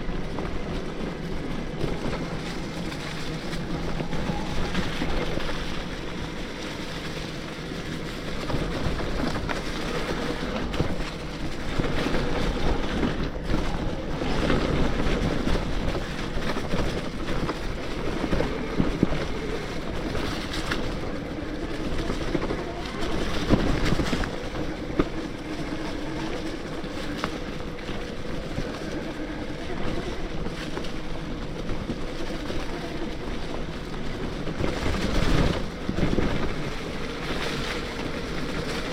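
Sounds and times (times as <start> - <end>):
wind and tyre noise: 0.0 - 38.9.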